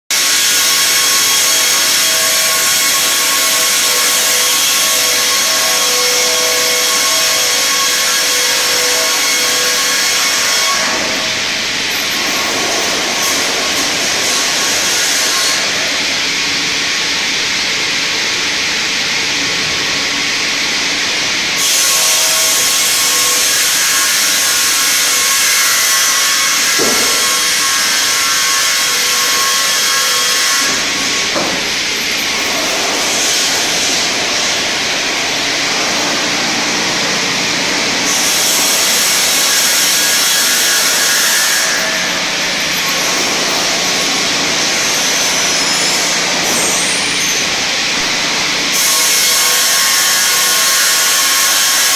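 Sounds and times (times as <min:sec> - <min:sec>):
circular sawmill sawing log: 0:00.1 - 0:51.9.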